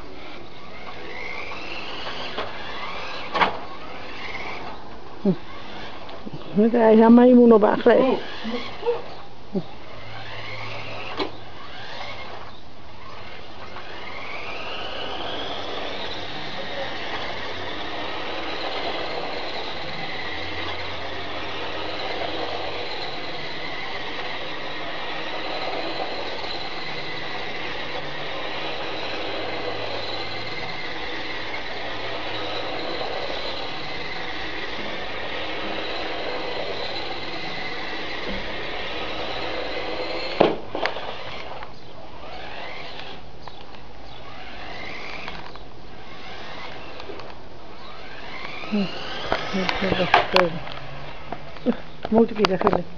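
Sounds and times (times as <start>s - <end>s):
toy car motor whining: 0.0s - 52.8s.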